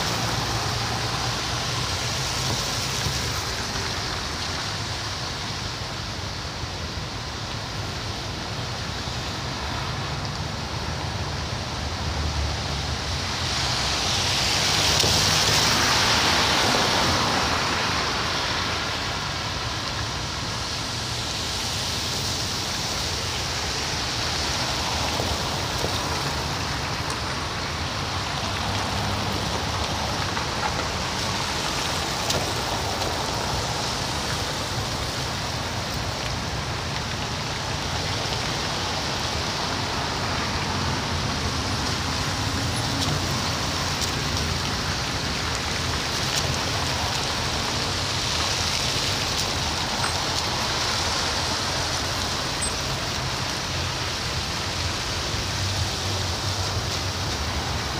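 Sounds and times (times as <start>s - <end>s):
tyres hissing through water: 0.0s - 57.9s.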